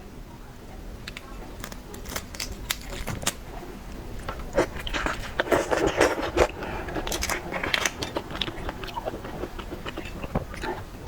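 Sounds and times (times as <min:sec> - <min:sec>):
crunching shellfish: 0:01.0 - 0:11.0.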